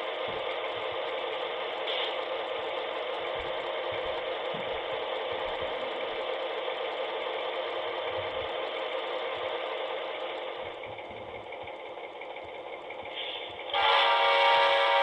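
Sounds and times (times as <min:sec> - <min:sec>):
model locomotive running on track: 0:00.0 - 0:15.0.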